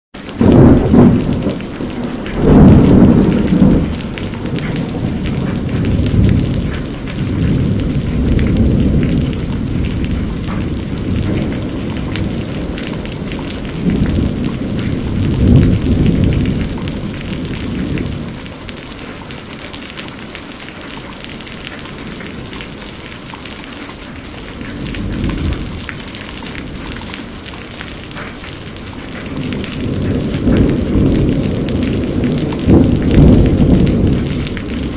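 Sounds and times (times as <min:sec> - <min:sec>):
heavy rain: 0:00.2 - 0:34.9
thunder rolling: 0:00.3 - 0:18.6, 0:24.2 - 0:34.9.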